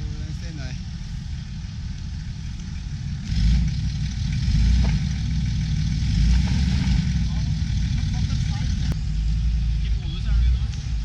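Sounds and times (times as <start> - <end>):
engine rumbling and surging: 0.0 - 11.0.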